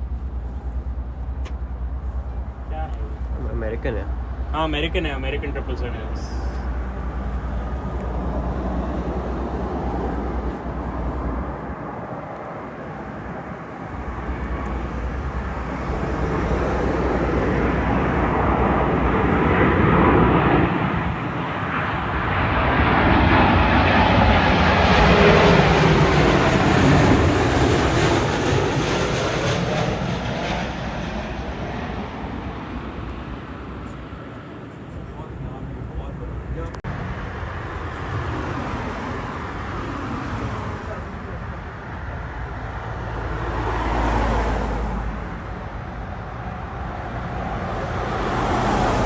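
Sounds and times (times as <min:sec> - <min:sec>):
jet engines roaring overhead: 0:00.0 - 0:49.0.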